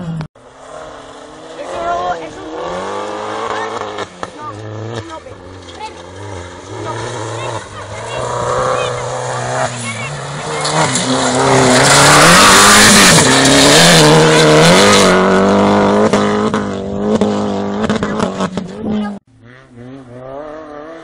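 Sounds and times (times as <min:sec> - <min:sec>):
faint engine revving: 0:00.0 - 0:21.0
rally car engine at high revs: 0:00.0 - 0:21.0.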